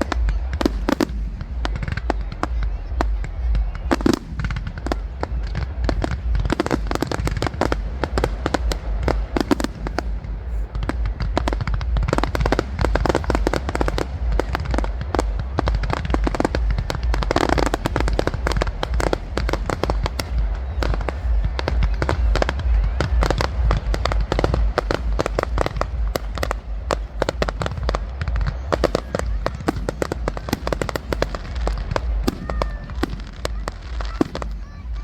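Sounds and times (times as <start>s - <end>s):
fireworks crackling and banging: 0.0s - 35.0s
low rumble: 0.0s - 35.0s.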